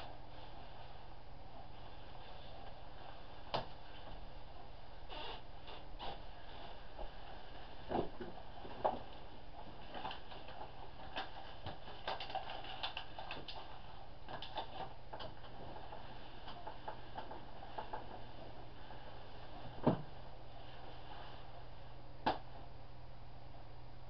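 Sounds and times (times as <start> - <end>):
bedclothes rustling and creaking: 0.0 - 22.7
steady low hum: 0.0 - 24.0.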